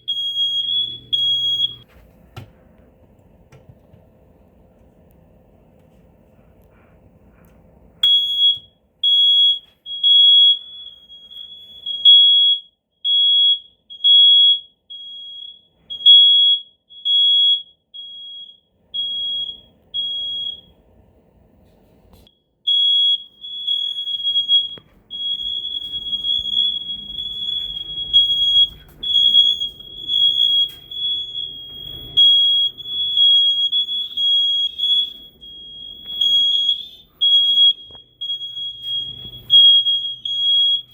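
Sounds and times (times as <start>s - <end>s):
smoke alarm beeping: 0.0s - 2.0s, 8.0s - 20.8s, 22.2s - 40.9s.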